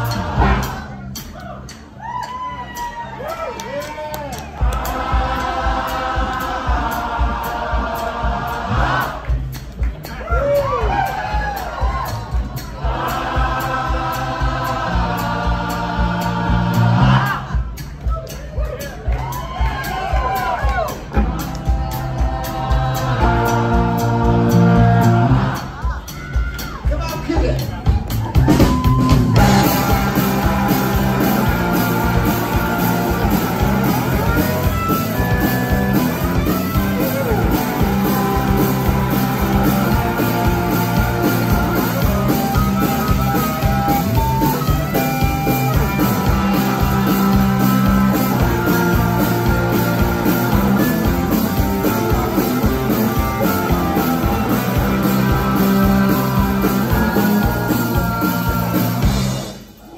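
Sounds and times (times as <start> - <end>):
live rock band playing boogie: 0.0 - 59.7.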